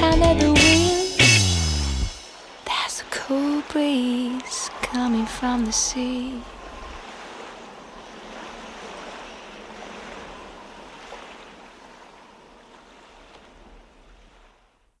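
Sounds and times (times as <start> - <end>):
ocean waves washing on shore: 2.1 - 14.9.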